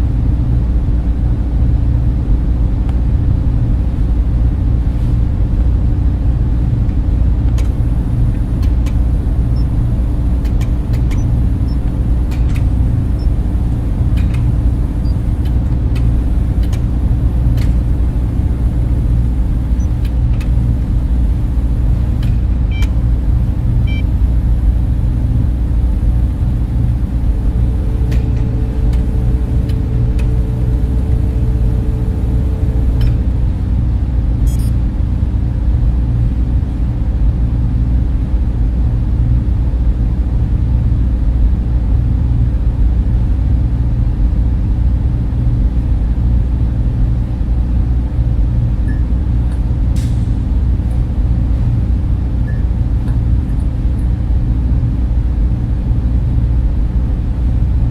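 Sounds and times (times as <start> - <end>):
cooling fans humming: 0.0 - 57.9.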